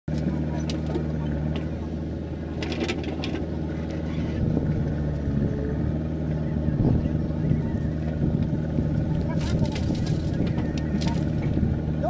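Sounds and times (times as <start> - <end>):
diesel engines running: 0.1 - 12.0.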